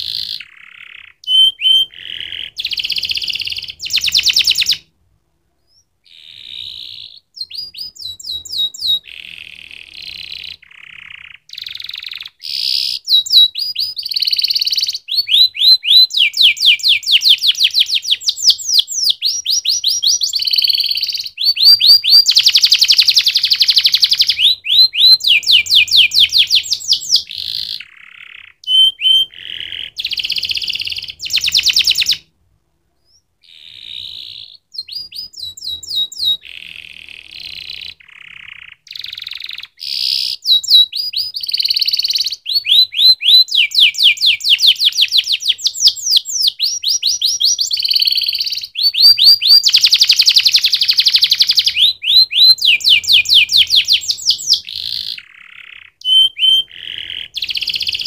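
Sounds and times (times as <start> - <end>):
canary singing trills: 0.0 - 4.9, 5.6 - 32.3, 33.0 - 58.0.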